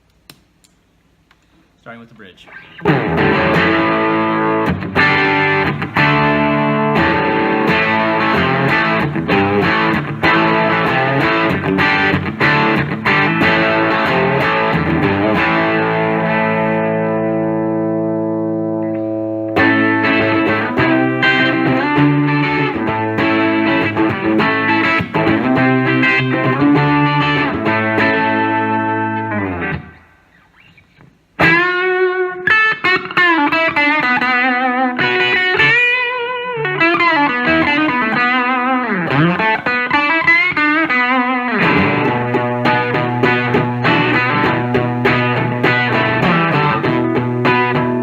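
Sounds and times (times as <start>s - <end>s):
overdriven electric guitar: 2.5s - 48.0s.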